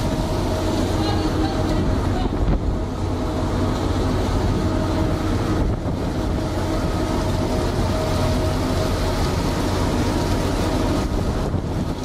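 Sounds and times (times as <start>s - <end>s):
engine and machinery humming: 0.0s - 12.0s
water and fish rushing: 0.0s - 12.0s.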